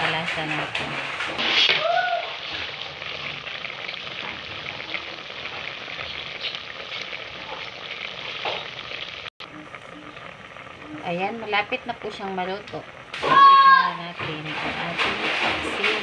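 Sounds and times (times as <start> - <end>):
broth simmering in a pot: 0.0 - 16.0.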